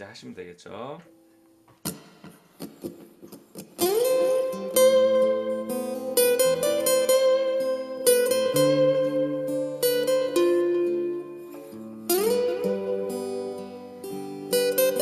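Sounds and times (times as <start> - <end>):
acoustic guitar lead line: 0.7 - 15.0
guitar chords backing track: 1.0 - 15.0.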